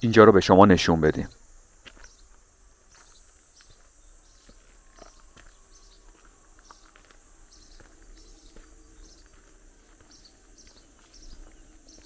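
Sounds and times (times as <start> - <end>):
steady high hiss: 0.0 - 12.0
faint footsteps: 1.5 - 12.0.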